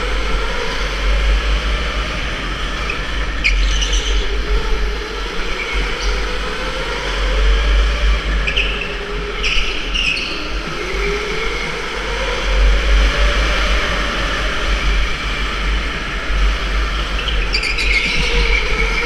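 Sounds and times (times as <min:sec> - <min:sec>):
electric go-kart motor whine: 0:00.0 - 0:19.0
wind rumble: 0:00.0 - 0:19.0.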